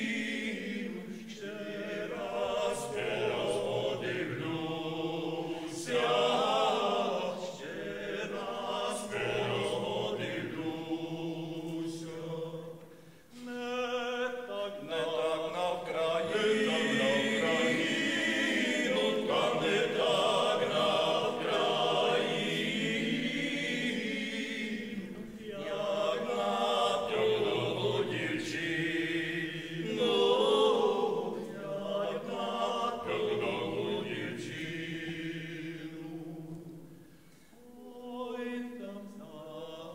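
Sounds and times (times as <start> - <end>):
choir singing long held notes: 0.0 - 39.9.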